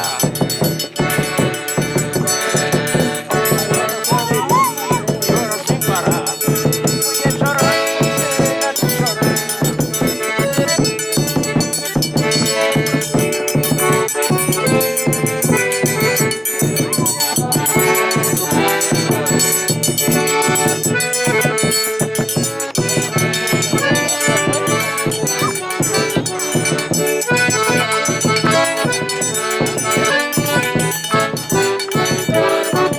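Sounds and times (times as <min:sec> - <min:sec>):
accordion melody: 0:00.0 - 0:32.9
driving percussion beat: 0:00.0 - 0:32.9.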